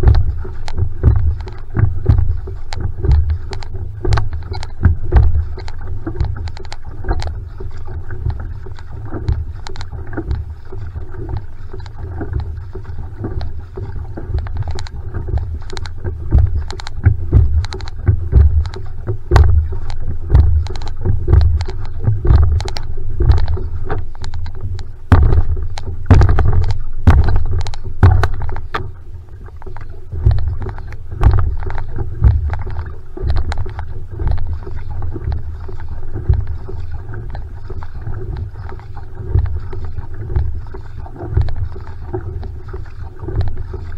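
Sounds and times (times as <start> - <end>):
low rumble of water on hull: 0.0 - 43.9
paddle strokes splashing: 0.0 - 43.9.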